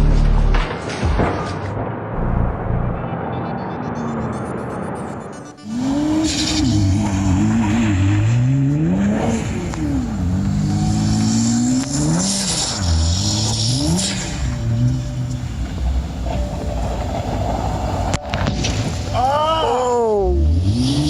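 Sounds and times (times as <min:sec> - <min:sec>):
car engine revving: 0:01.7 - 0:19.2, 0:20.2 - 0:21.0.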